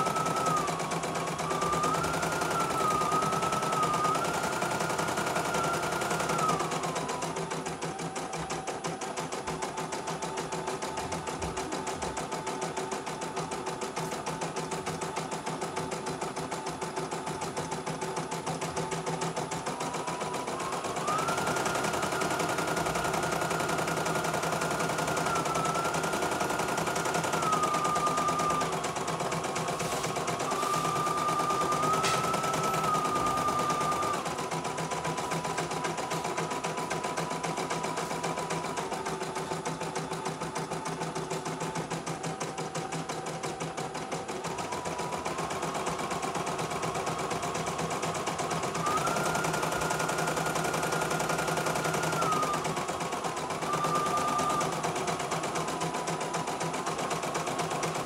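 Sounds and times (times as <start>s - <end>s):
motor whine: 0.0s - 56.1s.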